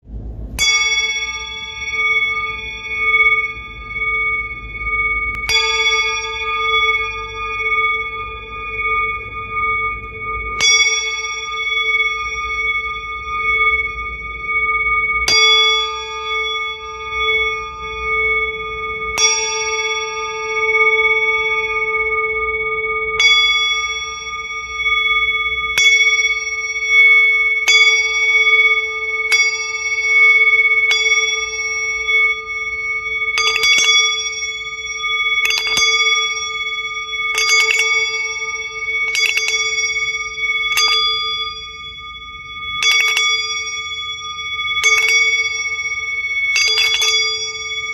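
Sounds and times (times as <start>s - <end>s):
ringing metal bells: 0.2s - 47.9s.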